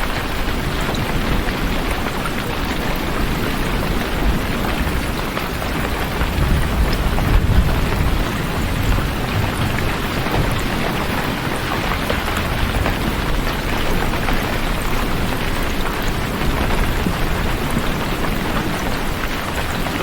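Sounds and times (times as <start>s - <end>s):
steady rain: 0.0s - 20.0s
thunder rumble: 0.7s - 18.9s.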